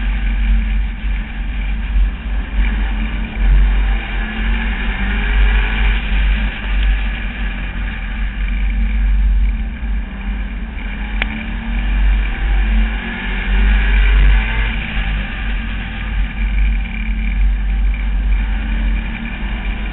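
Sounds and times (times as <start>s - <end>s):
race car engine running hard: 0.0s - 19.9s.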